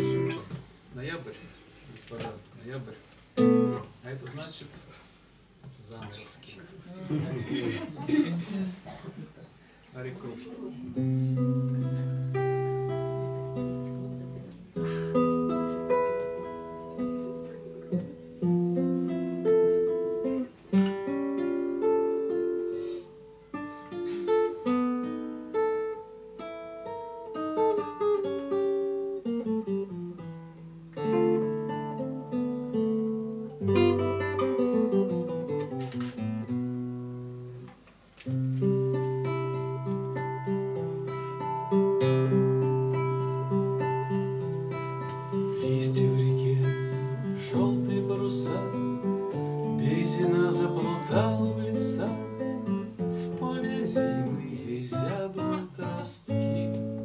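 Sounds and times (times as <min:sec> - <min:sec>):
classical guitar playing: 0:00.0 - 0:00.9, 0:03.3 - 0:04.1, 0:10.8 - 0:57.0.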